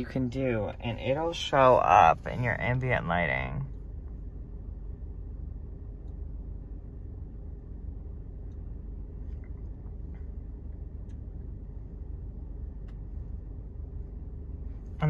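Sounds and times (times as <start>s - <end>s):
car cabin hum: 0.0s - 15.0s.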